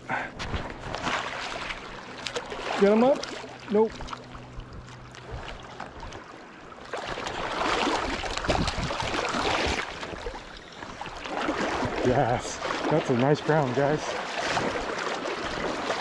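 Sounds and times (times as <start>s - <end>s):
fish thrashing and splashing: 0.5s - 16.0s.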